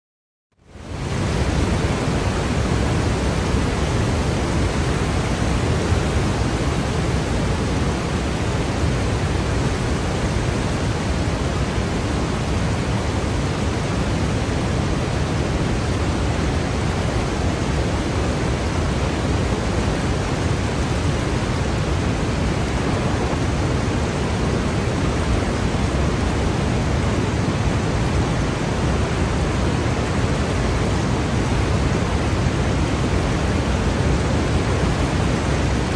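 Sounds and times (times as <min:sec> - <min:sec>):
waterfall rushing: 0:00.8 - 0:35.9.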